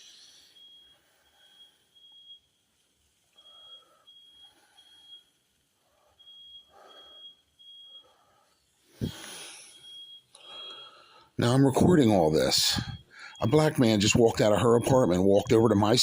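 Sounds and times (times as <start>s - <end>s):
smoke alarm beeping: 0.0s - 16.0s.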